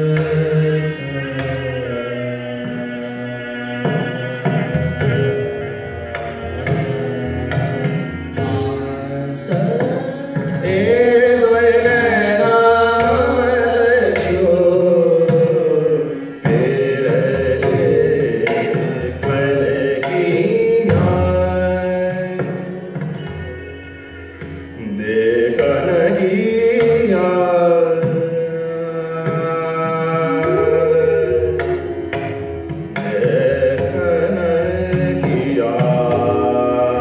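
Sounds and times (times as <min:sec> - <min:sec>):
person singing melody: 0:00.0 - 0:22.8, 0:24.8 - 0:37.0
string accompaniment: 0:00.0 - 0:37.0.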